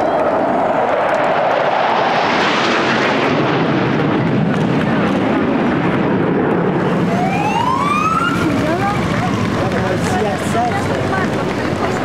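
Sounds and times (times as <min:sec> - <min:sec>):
military aircraft flying over: 0:00.0 - 0:12.0.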